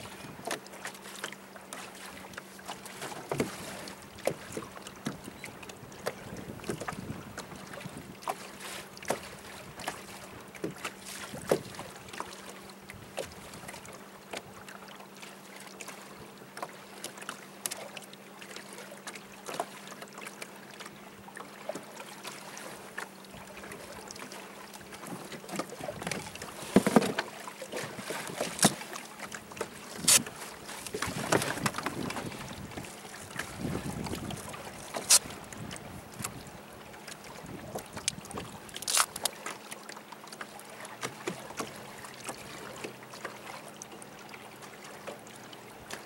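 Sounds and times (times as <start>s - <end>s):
water lapping against boat hull: 0.0s - 46.0s.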